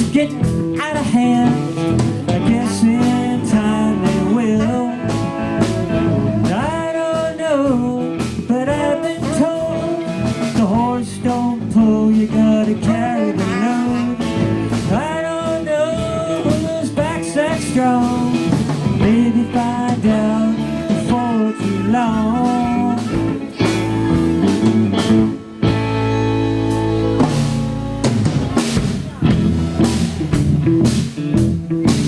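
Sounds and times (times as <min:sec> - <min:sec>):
lead guitar bending notes: 0:00.0 - 0:32.0
live blues-rock band: 0:00.0 - 0:32.0.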